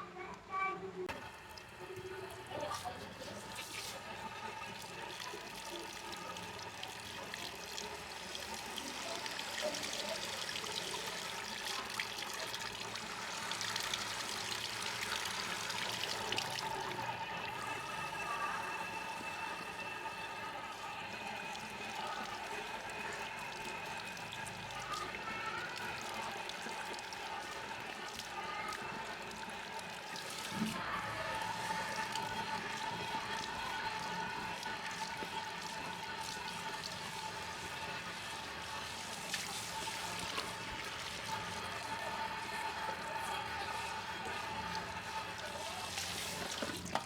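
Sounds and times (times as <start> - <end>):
water running and splashing: 1.1 - 47.0.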